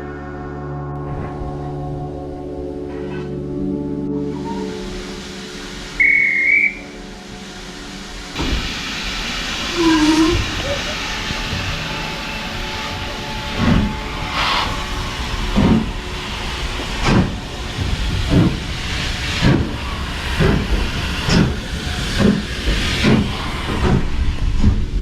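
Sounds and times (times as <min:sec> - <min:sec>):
steam locomotive exhaust beats: 0:03.3 - 0:25.0
steady hiss of steam: 0:04.1 - 0:25.0.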